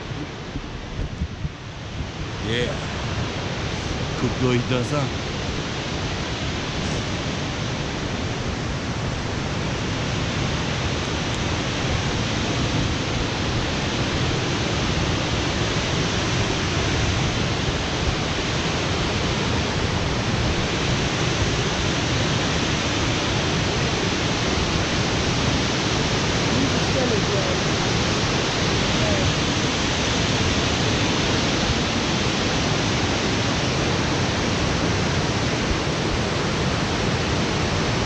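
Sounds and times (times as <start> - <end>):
waterfall roaring: 1.7 - 38.0.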